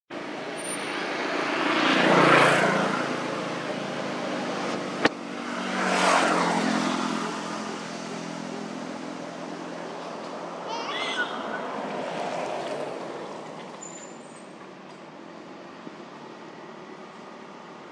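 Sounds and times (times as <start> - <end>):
motor vehicles passing: 0.2 - 17.9.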